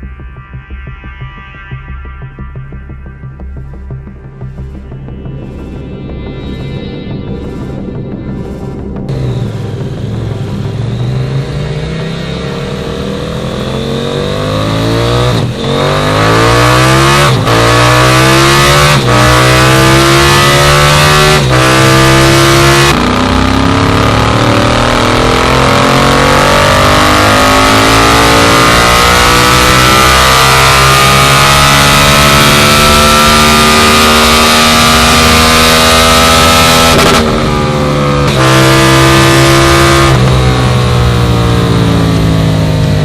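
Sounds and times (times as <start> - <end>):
motorcycle engine revving hard: 8.4 - 43.0.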